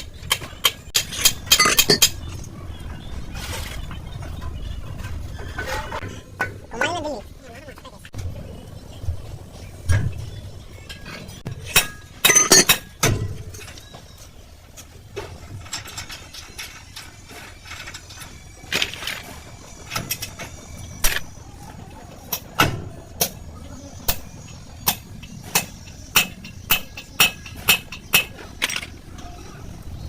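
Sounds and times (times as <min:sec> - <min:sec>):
metal tools clinking on wheel hub: 0:00.0 - 0:07.0, 0:10.7 - 0:21.4, 0:23.2 - 0:30.0.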